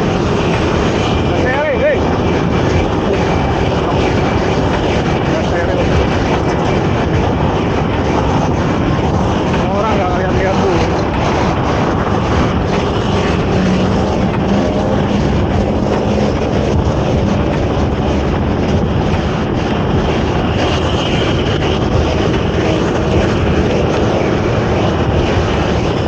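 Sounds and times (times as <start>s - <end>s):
low hum: 0.0s - 26.0s
road traffic noise: 0.0s - 26.0s
wind on microphone: 0.0s - 26.0s.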